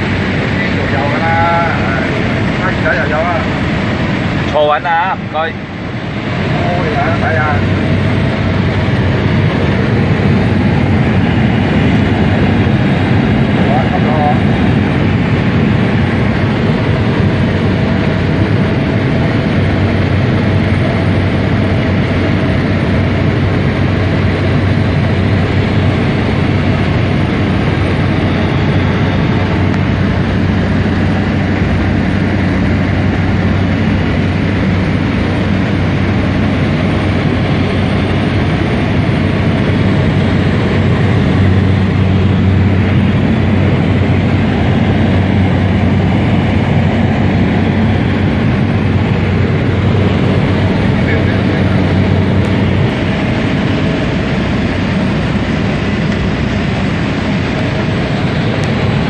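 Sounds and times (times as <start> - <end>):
jet engines and airflow roar: 0.0 - 59.0
low hum: 0.0 - 59.0.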